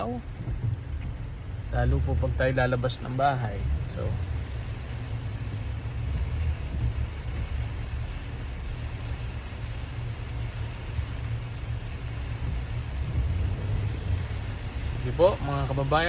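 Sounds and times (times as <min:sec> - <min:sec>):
hiss of rain and wet tyres: 0:00.0 - 0:16.0
road and engine rumble: 0:00.0 - 0:16.0.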